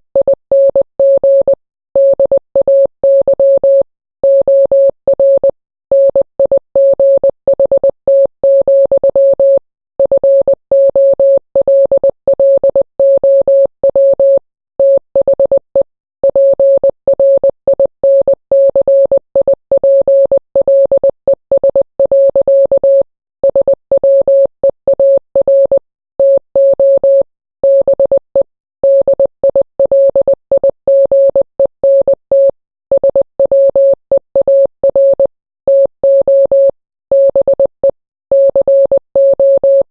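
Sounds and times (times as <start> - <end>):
morse code beeps: 0.2 - 39.9.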